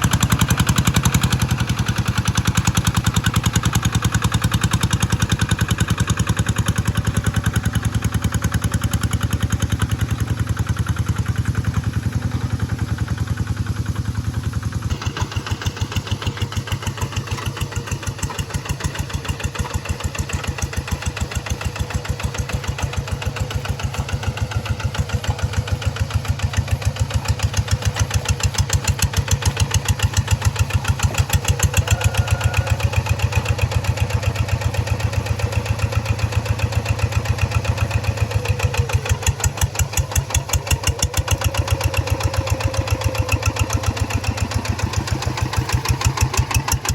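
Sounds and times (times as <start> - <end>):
hand tractor engine running: 0.0 - 46.9.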